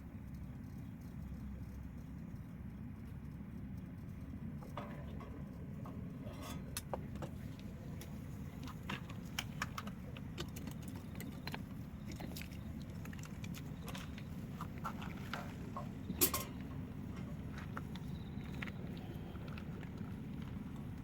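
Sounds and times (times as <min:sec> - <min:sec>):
low rumble of flames: 0:00.0 - 0:21.0
wood fire crackling and popping: 0:02.6 - 0:21.0.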